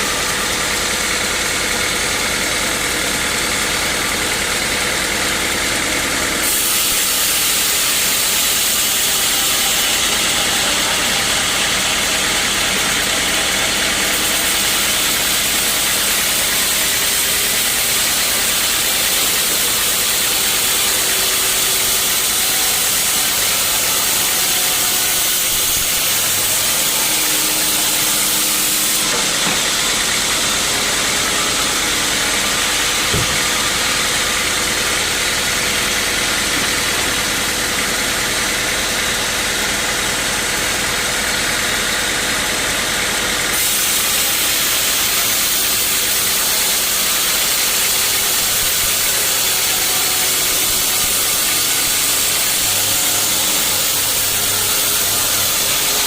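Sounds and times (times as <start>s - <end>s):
saw hissing through log: 0.0s - 56.0s
sawmill machinery running: 0.0s - 56.0s.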